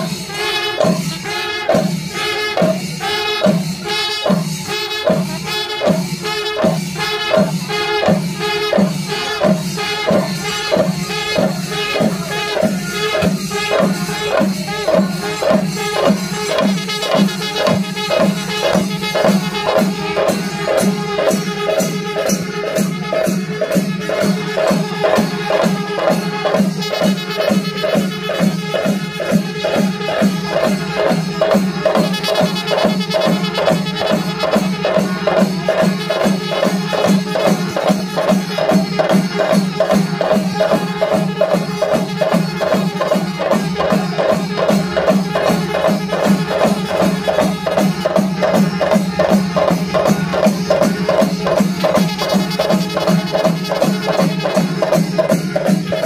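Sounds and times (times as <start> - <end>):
drums and cymbals playing: 0.0 - 56.0.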